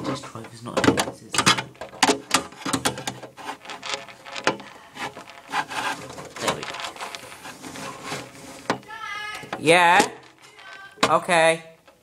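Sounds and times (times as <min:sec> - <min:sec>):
drive scraping and clicking in case: 0:00.0 - 0:11.2.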